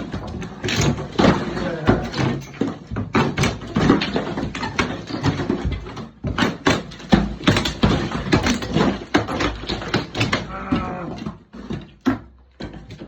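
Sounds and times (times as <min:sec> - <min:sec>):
debris crumbling and falling: 0:00.0 - 0:13.0
plaster and lath cracking: 0:00.0 - 0:13.0.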